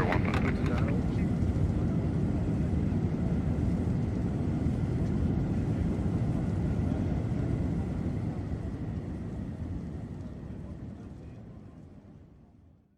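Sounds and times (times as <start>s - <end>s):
airliner low rumble: 0.0s - 12.8s.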